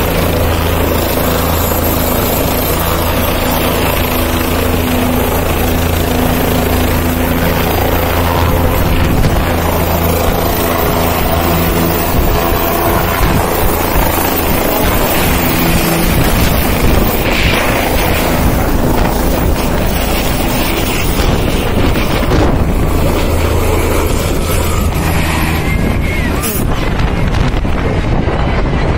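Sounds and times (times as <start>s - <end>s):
helicopter engine and rotor: 0.0s - 28.9s
wind buffeting microphone: 2.8s - 28.9s.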